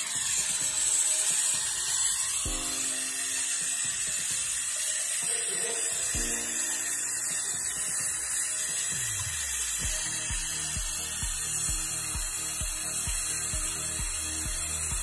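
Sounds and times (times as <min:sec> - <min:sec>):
background music with beat: 0:00.0 - 0:15.0
torch flame hissing: 0:00.0 - 0:15.0.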